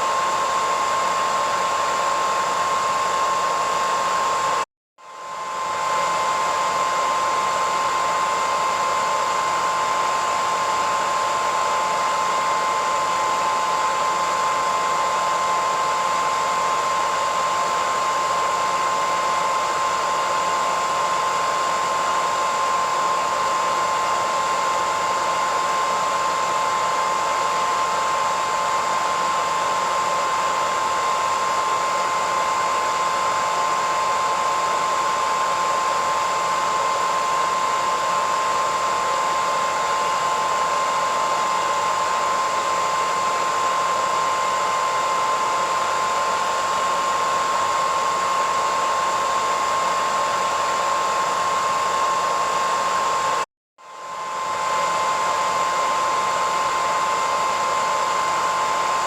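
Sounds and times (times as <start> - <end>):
hairdryer running: 0.0 - 59.0.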